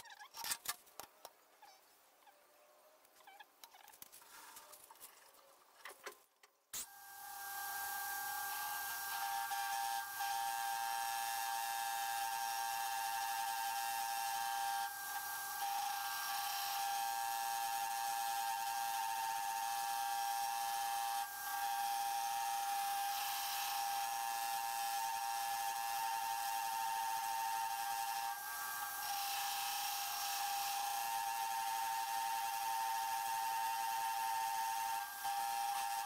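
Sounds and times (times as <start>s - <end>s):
hiss of cutting tool: 6.8s - 36.0s
metal lathe whining: 7.0s - 36.0s.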